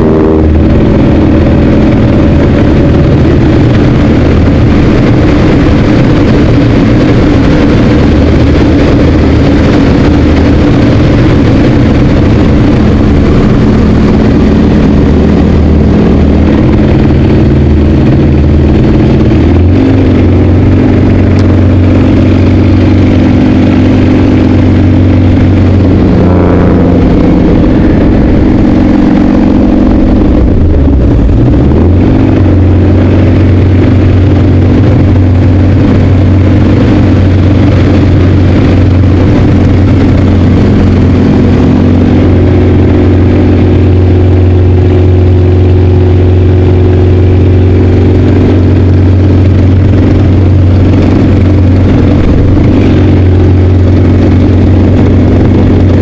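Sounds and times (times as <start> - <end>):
propeller plane engine droning: 0.0 - 56.0
rushing air: 0.0 - 56.0.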